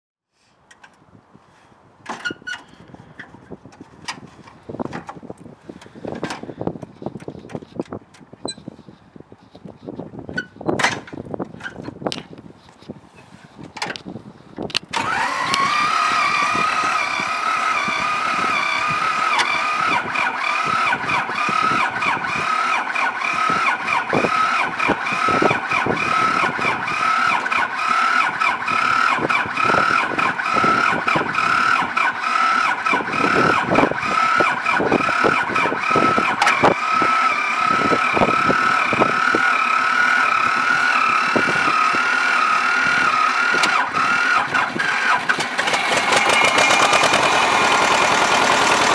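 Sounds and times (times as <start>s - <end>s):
diesel tractor engine running: 1.9s - 48.9s.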